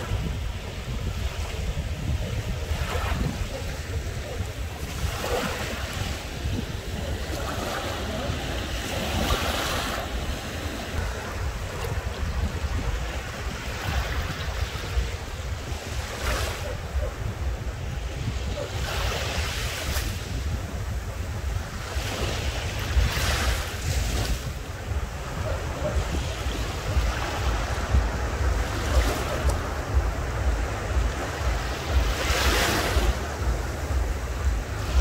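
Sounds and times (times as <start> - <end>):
waves washing onto shore: 0.0 - 35.0
wind buffeting microphone: 0.0 - 35.0.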